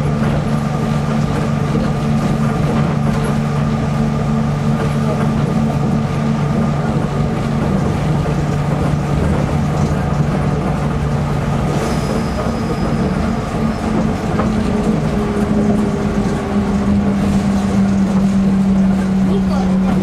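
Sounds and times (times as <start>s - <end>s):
train motor hum: 0.0s - 20.0s
train running noise: 0.0s - 20.0s.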